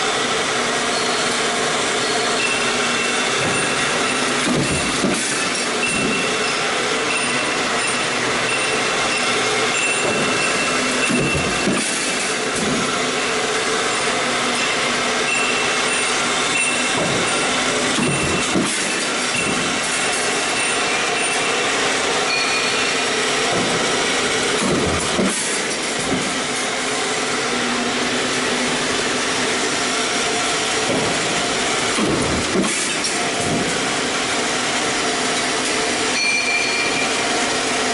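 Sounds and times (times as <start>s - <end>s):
stamping press machine noise: 0.0s - 37.9s.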